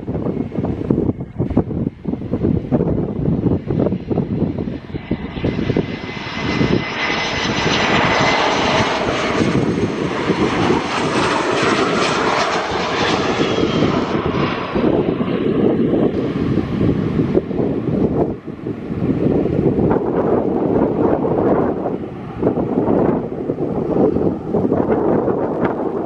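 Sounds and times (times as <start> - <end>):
jet airliner engines passing: 0.0 - 26.0
wind buffeting microphone: 0.0 - 26.0.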